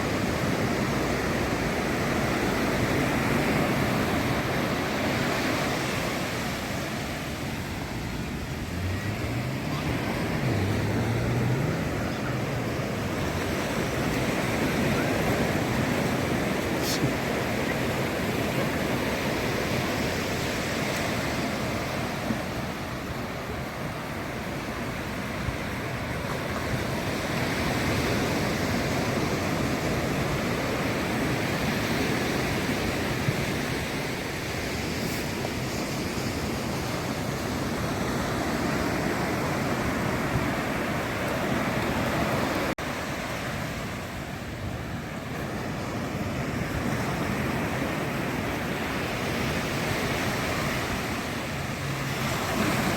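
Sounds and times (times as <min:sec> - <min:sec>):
ocean surf breaking on beach: 0:00.0 - 0:52.9.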